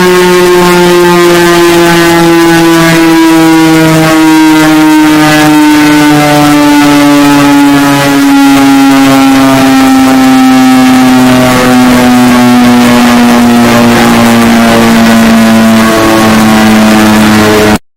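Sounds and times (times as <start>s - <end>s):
electronic alarm drone: 0.0s - 17.8s.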